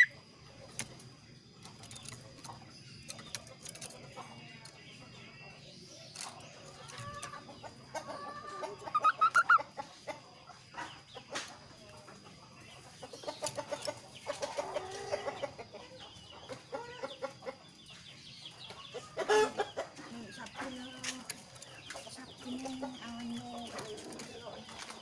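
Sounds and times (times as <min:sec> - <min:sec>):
songbird chattering: 0:00.0 - 0:25.0.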